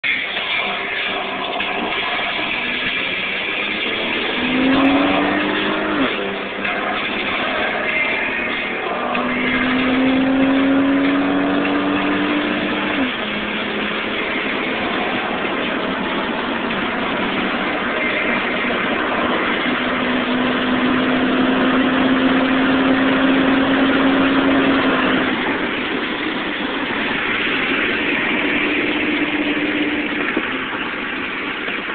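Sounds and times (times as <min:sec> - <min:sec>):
car engine accelerating: 0:00.0 - 0:31.9
road and wind noise: 0:00.0 - 0:31.9.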